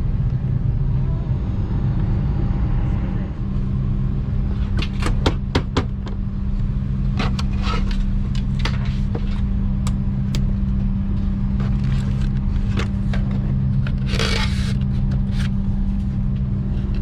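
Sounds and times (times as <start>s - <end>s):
cabin air system drone: 0.0s - 17.0s.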